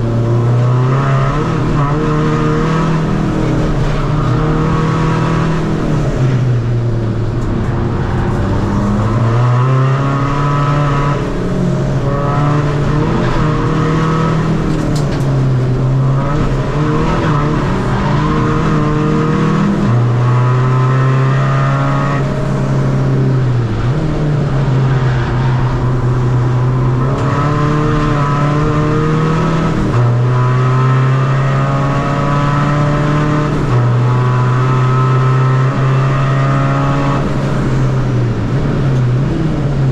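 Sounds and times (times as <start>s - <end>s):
diesel car engine accelerating: 0.0s - 39.9s.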